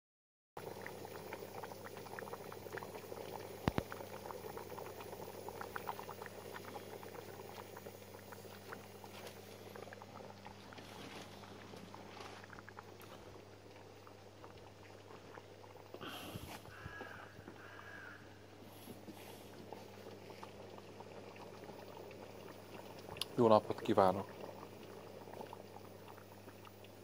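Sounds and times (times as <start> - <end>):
stew bubbling: 0.6 - 27.0.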